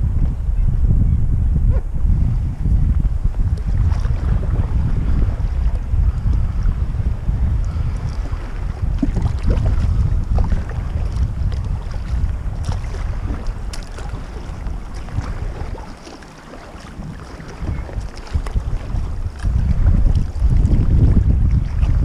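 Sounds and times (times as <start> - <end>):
wind buffeting microphone: 0.0 - 22.0
water splashing around kayak: 1.6 - 22.0.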